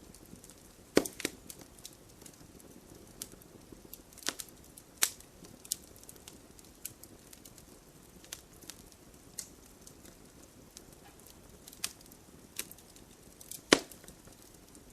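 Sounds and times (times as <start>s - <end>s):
firewood crackling in a fireplace: 0.0s - 14.9s.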